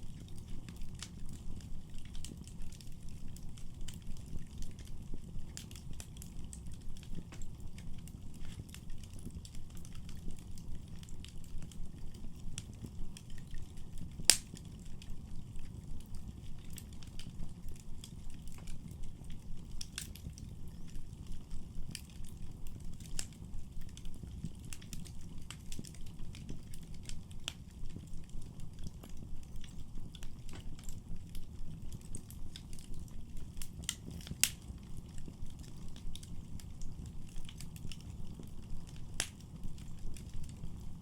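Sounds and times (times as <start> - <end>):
low rumble of flames: 0.0 - 41.0
sharp snaps and pops of fire: 0.0 - 41.0
wood fire crackling: 0.0 - 41.0.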